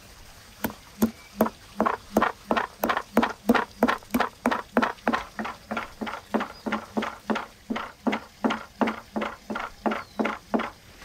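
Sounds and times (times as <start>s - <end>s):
pestle pounding in wooden mortar: 0.6s - 10.8s.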